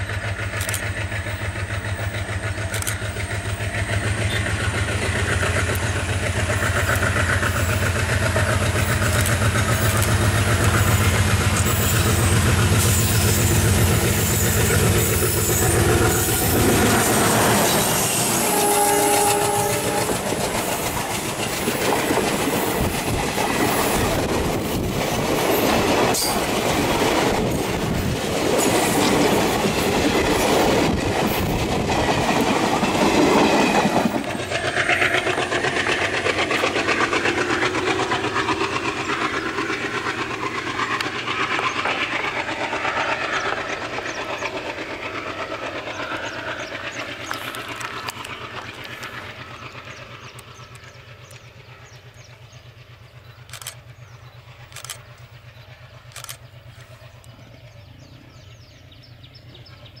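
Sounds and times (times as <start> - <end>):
train wheels clacking: 0.0 - 60.0.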